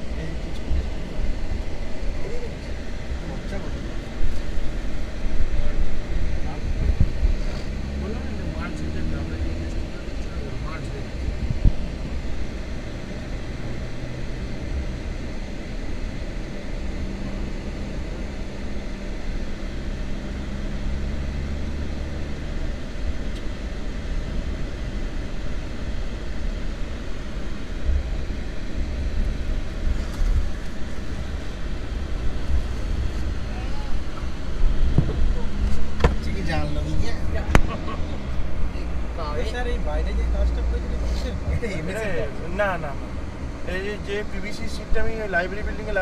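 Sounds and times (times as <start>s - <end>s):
car driving rumble: 0.0s - 46.0s.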